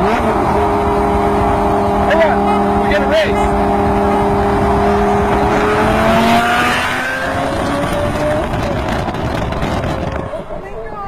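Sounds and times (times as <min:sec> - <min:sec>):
sports car engine accelerating: 0:00.0 - 0:10.5
road rush: 0:00.0 - 0:11.0
wind rush: 0:00.3 - 0:11.0.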